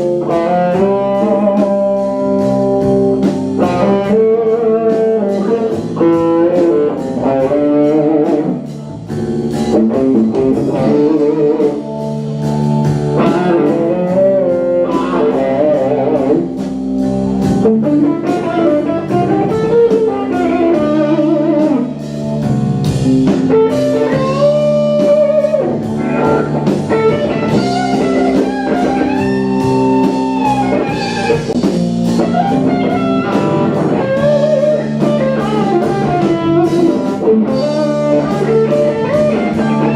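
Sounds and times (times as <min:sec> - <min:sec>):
drums: 0:00.0 - 0:39.9
lead guitar bending notes: 0:00.0 - 0:39.9
sustained guitar chords: 0:00.0 - 0:39.9.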